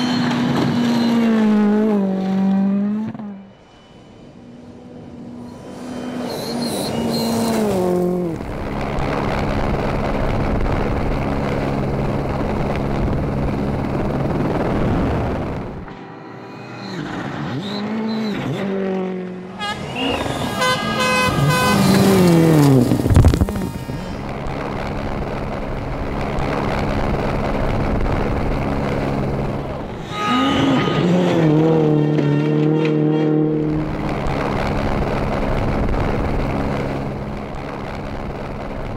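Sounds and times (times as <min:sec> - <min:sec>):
rally car engine: 0:00.0 - 0:38.9
loud rush of noise: 0:03.4 - 0:32.1, 0:33.5 - 0:38.9.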